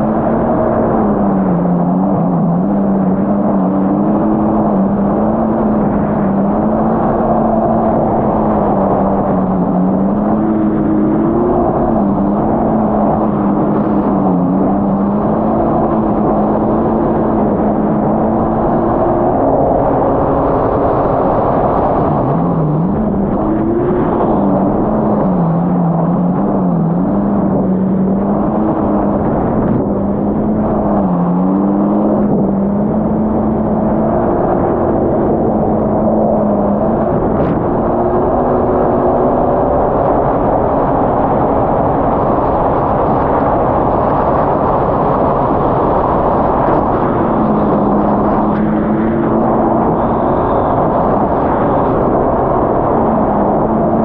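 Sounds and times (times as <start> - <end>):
jet ski engine running: 0.0 - 54.0
rush of wind and water: 0.0 - 54.0.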